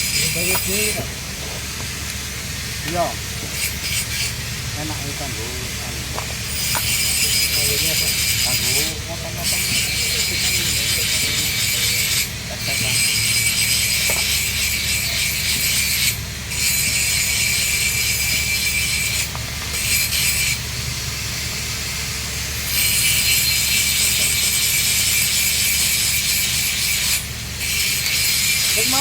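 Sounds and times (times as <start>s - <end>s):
welding arc crackling: 0.0s - 29.0s.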